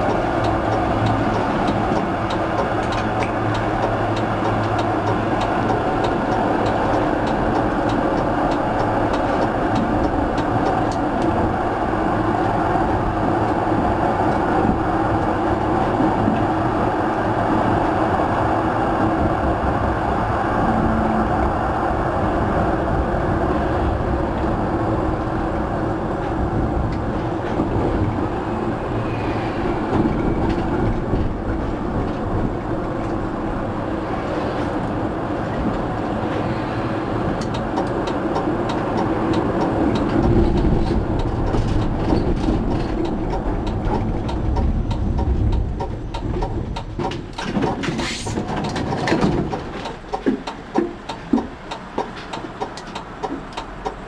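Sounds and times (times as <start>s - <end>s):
tram wheels rumbling on rail: 0.0s - 54.0s.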